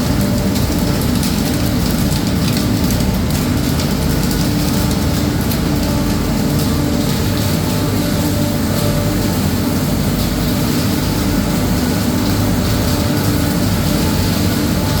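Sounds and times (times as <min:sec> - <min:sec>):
mill machinery humming: 0:00.0 - 0:15.0.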